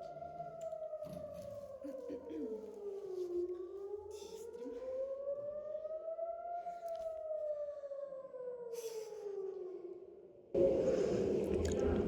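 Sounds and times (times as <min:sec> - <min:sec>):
air raid siren wailing: 0:00.0 - 0:12.0.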